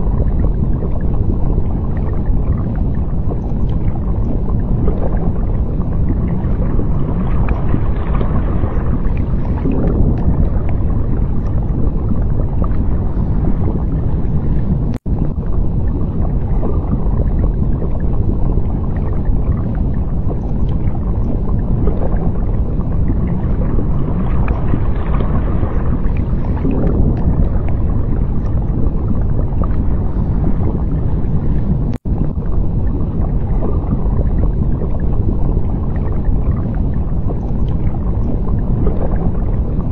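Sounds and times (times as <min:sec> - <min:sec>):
low rumbling water: 0:00.0 - 0:39.9.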